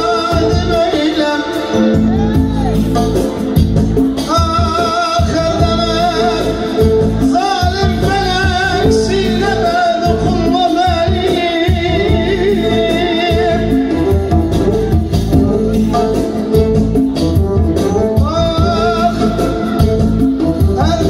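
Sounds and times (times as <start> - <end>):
person singing long ornamented notes: 0.0 - 3.1, 4.2 - 17.1, 17.8 - 21.0
band with steady beat: 0.0 - 21.0.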